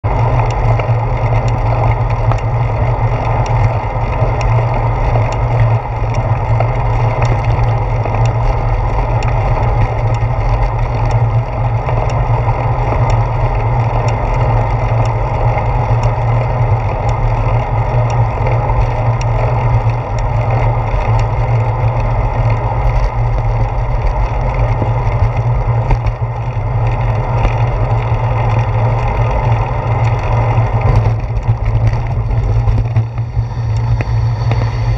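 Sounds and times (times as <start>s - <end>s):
wind and road rumble: 0.0s - 34.9s.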